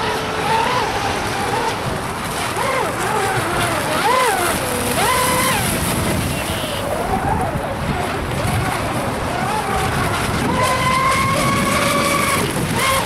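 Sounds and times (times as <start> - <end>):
model boat motor whining: 0.0 - 13.0
steady rushing noise: 0.0 - 13.0.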